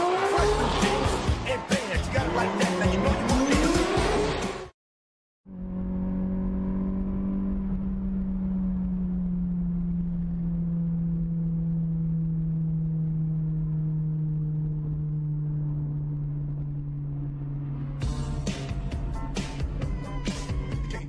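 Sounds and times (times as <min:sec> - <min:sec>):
car engine drone: 0:00.0 - 0:04.7, 0:05.5 - 0:21.0
low road rumble: 0:00.0 - 0:04.7, 0:05.4 - 0:21.0.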